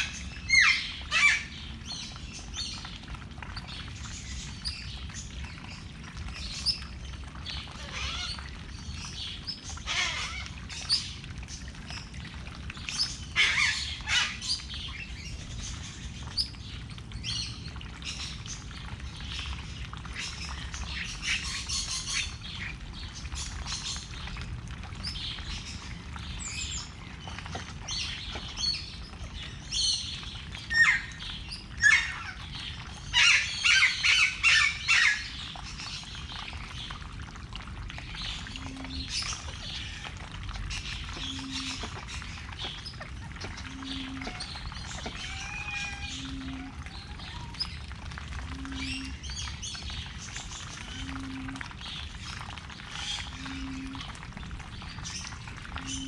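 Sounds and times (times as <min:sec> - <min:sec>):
birds chirping and squawking: 0:00.0 - 0:12.1, 0:12.8 - 0:24.2, 0:25.0 - 0:36.9, 0:38.0 - 0:47.9, 0:48.6 - 0:54.1.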